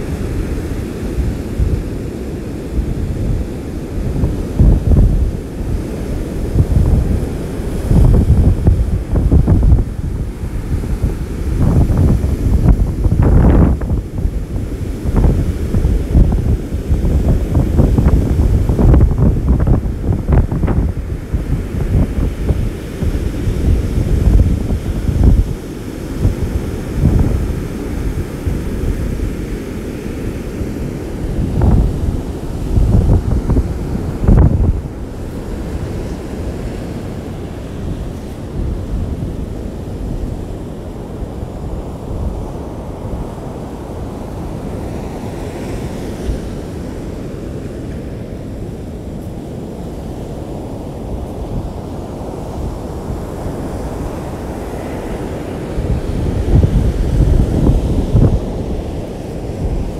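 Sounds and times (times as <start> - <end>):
storm wind buffeting microphone: 0.0 - 59.9
surf breaking on beach: 0.0 - 59.9.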